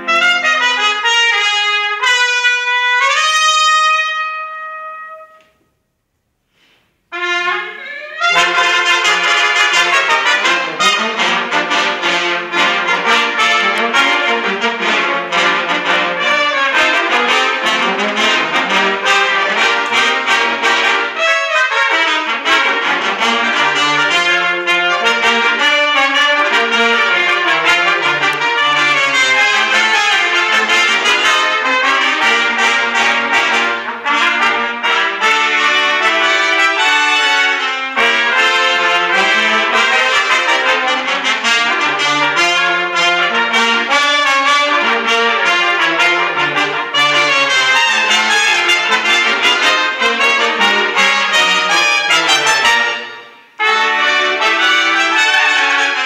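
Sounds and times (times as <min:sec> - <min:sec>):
brass ensemble playing: 0:00.0 - 0:05.6, 0:07.0 - 0:56.0
trumpet phrases: 0:00.0 - 0:05.6, 0:07.1 - 0:56.0.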